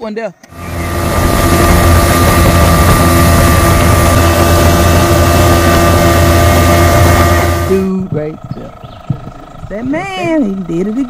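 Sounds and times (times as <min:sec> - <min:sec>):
boat motor running: 0:00.4 - 0:11.0.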